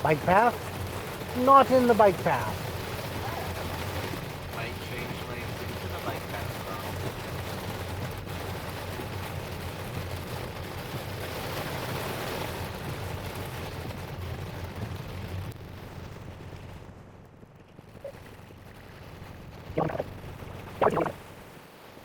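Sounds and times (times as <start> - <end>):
rain and hail on car roof: 0.0 - 20.8, 21.4 - 22.0.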